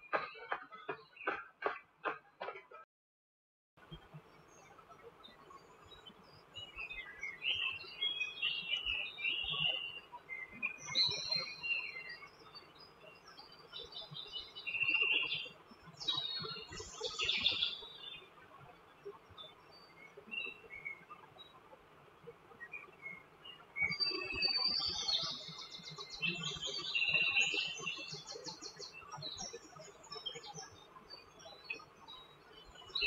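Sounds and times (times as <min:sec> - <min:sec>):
birds chirping and singing: 0:00.0 - 0:02.7, 0:04.4 - 0:18.4, 0:19.2 - 0:21.5, 0:22.6 - 0:33.0.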